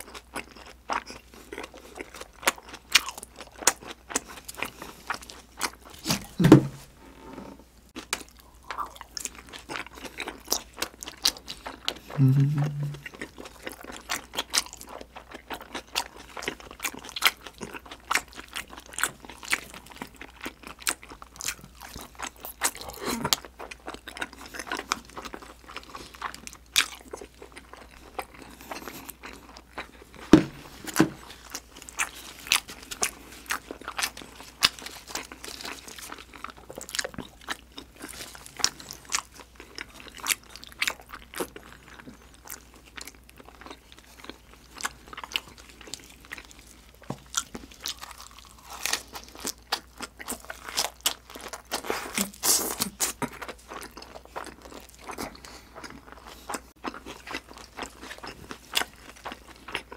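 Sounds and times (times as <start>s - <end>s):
wet chewing mouth sounds: 8.0s - 59.9s.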